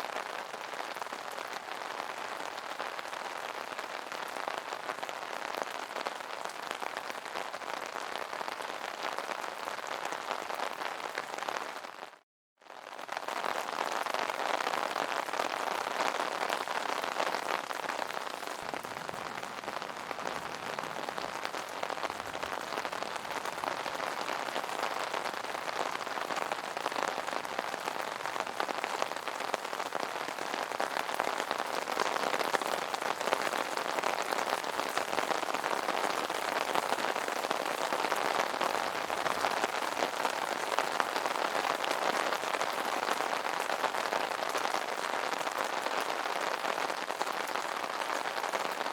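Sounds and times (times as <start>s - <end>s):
rain falling on an umbrella: 0.0s - 48.9s.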